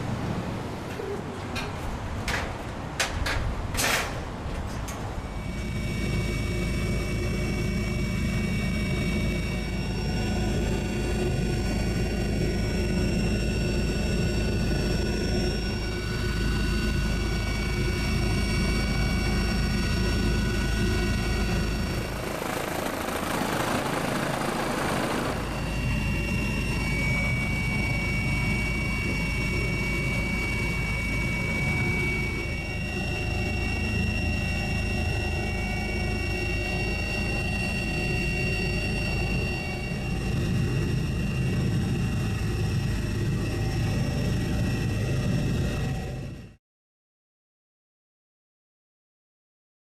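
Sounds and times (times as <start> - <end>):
helicopter rumble and whine: 0.0 - 46.6.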